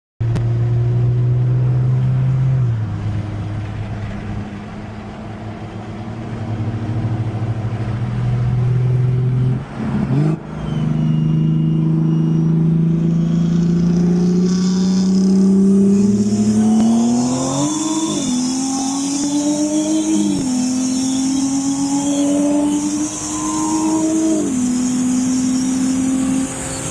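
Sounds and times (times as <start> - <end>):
car engine accelerating hard: 0.2 - 26.9.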